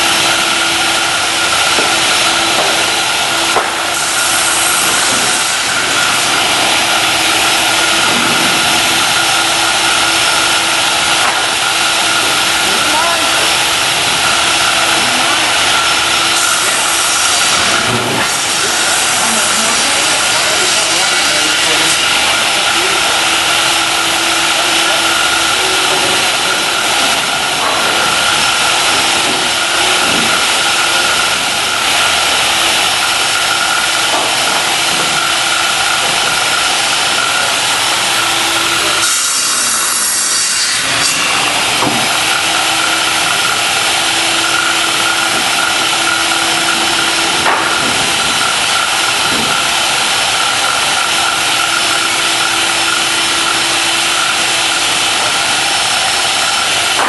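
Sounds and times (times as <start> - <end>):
power saw cutting wood: 0.0 - 57.0.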